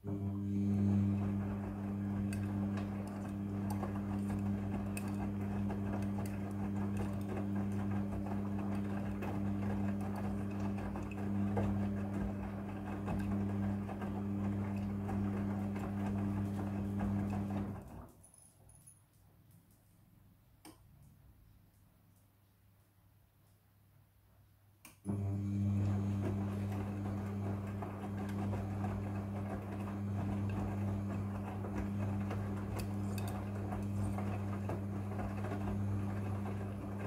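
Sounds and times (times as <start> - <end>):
washing machine tumbling laundry: 0.0 - 18.1, 25.1 - 37.0.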